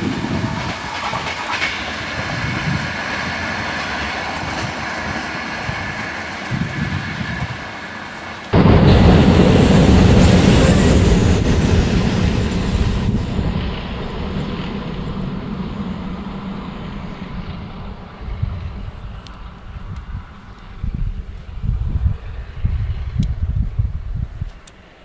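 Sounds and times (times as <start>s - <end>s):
passenger train passing rumble: 0.0s - 25.0s
train running on track: 0.0s - 25.0s.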